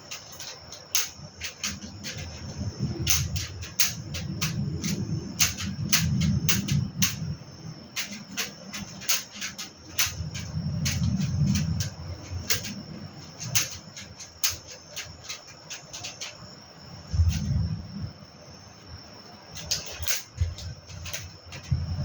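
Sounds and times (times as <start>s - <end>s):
sharp clicks: 0.0s - 17.6s, 19.6s - 22.0s
train rumble: 0.0s - 22.0s.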